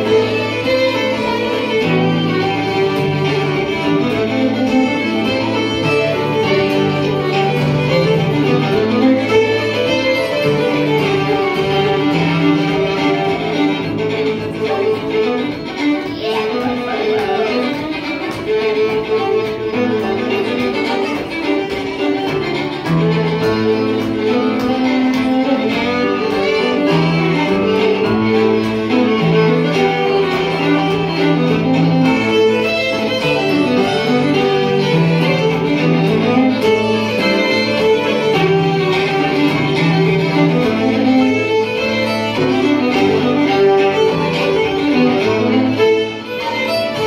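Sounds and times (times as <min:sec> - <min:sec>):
fiddles playing a lively tune: 0:00.0 - 0:47.0.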